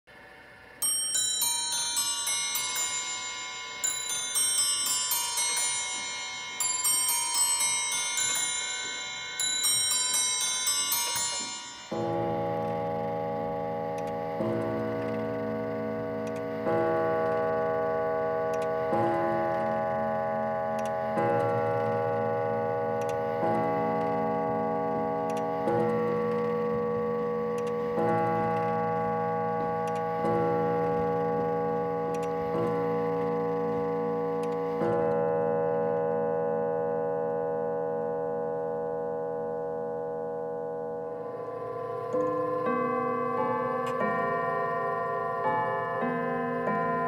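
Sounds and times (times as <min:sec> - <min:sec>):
clock chiming bells: 0:00.8 - 0:47.0.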